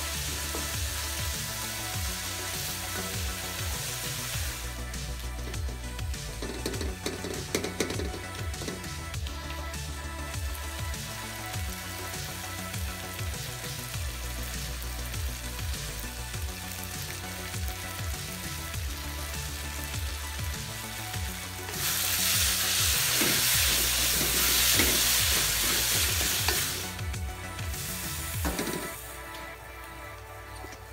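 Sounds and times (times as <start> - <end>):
food sizzling in a wok: 0.0 - 29.9
background music: 0.0 - 30.9.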